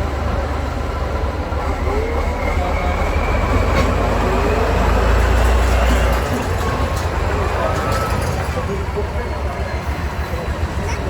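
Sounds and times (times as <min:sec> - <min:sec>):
truck engine rumbling under load: 0:00.0 - 0:11.0.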